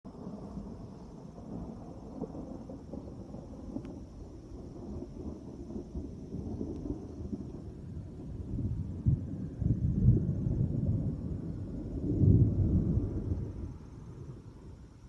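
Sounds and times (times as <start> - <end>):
distant thunder rumbling: 0.1 - 15.0.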